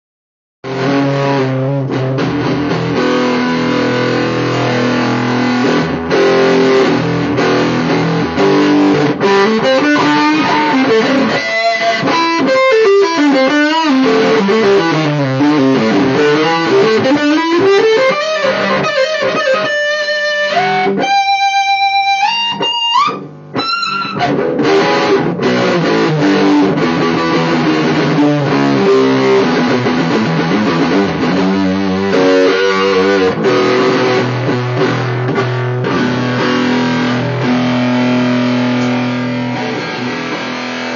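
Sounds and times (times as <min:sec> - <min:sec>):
distorted electric guitar: 0:00.6 - 0:40.9.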